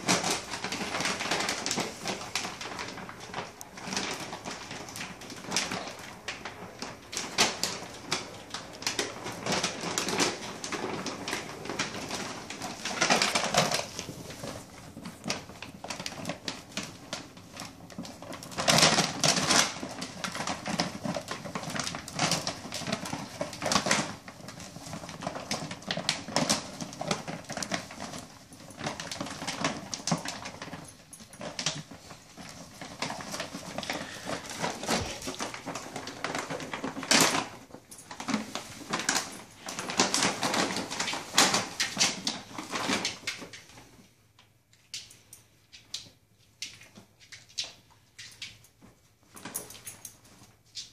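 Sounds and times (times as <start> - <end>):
plastic bag crinkling: 0.0 - 44.2, 44.8 - 50.9.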